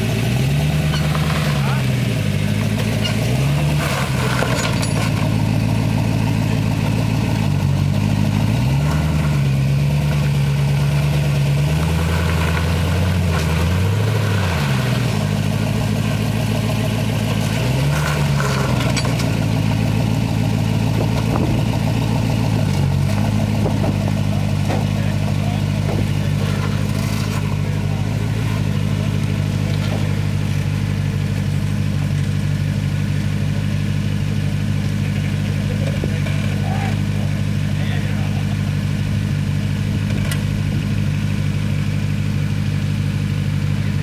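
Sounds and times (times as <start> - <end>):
engine revving under load: 0.0 - 44.0.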